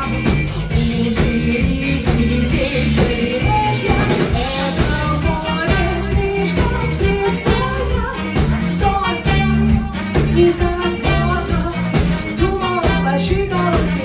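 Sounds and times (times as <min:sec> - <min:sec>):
live pop rock band: 0:00.0 - 0:14.0
person singing: 0:00.0 - 0:14.0.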